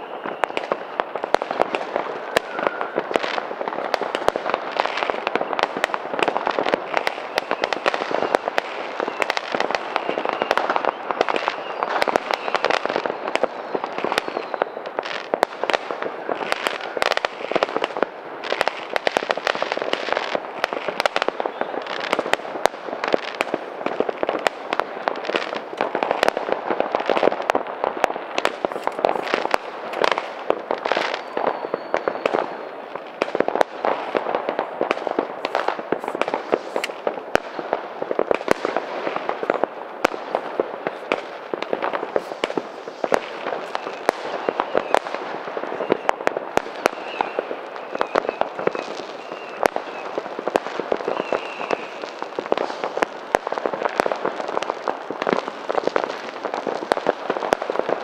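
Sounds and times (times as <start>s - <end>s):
firework whistle: 0.0s - 57.0s
fireworks and firecrackers banging: 0.0s - 58.0s.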